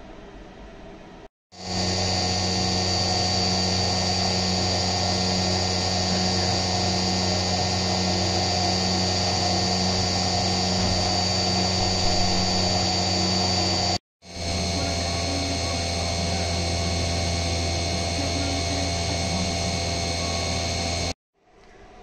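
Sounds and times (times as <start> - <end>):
low machine hum: 1.6 - 21.2
milling machine cutting whine: 1.6 - 21.2.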